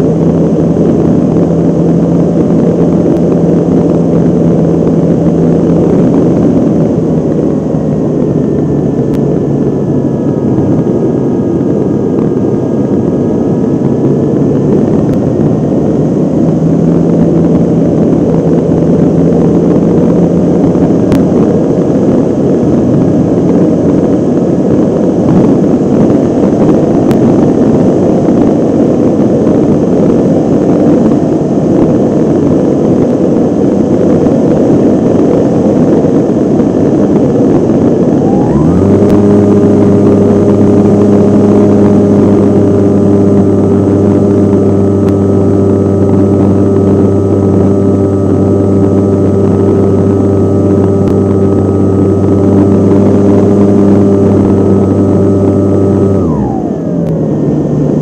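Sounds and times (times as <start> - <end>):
propeller drone: 0.0 - 58.0
wind rush: 0.0 - 58.0.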